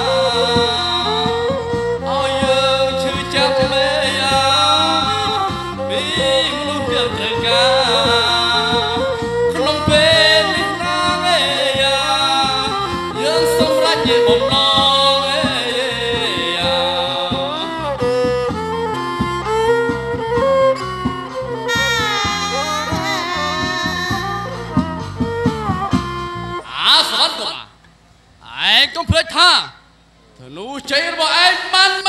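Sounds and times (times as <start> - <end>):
instrumental ensemble: 0.0 - 28.4.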